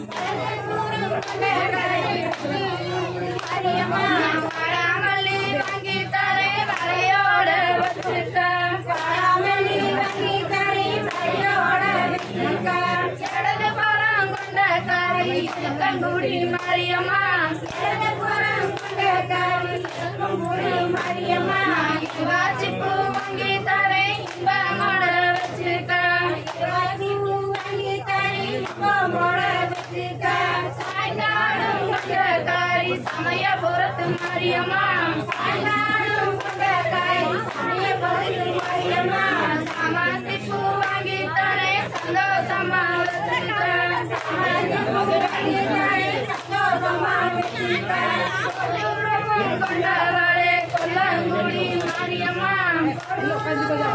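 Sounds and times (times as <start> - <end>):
rhythmic hand claps: 0.0 - 53.9
women singing in chorus: 0.0 - 53.9.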